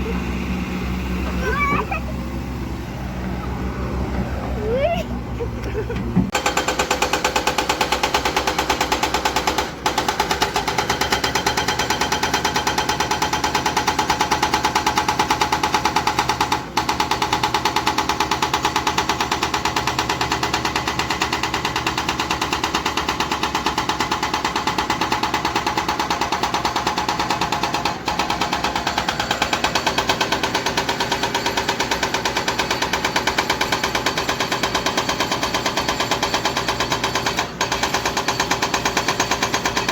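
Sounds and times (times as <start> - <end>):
hydraulic breaker hammer pounding rock: 6.3 - 39.9.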